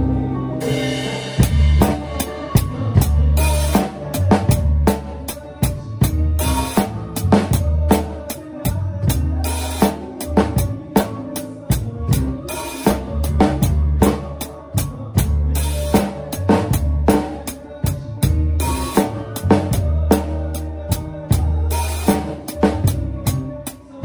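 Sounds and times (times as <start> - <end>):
drum kit groove: 0.0 - 24.0
long held bass notes: 0.0 - 24.0.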